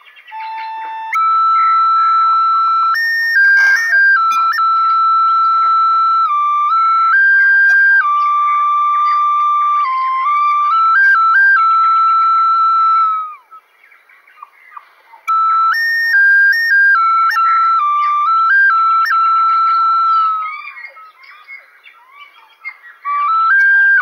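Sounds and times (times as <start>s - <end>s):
flute melody: 0.0s - 13.7s, 15.2s - 24.0s
faint bird chirps: 0.0s - 24.0s.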